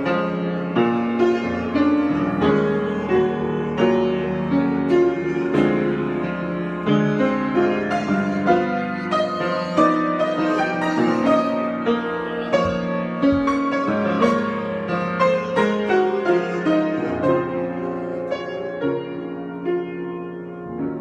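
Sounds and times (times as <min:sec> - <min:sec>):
solo piano playing: 0:00.0 - 0:21.0.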